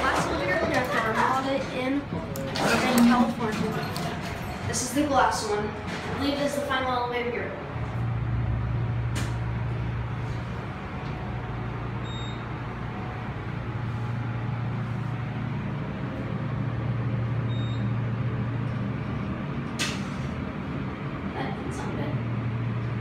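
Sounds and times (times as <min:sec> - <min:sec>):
elevator hum: 0:00.0 - 0:23.0.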